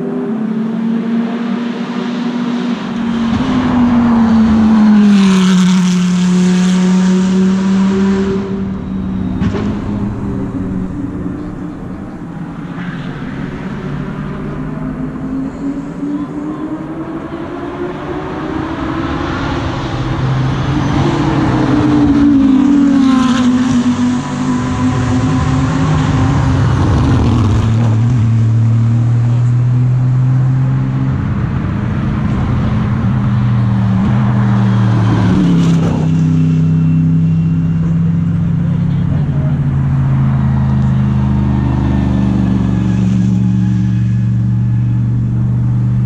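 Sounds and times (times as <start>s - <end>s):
race car engines passing: 0.0s - 46.0s.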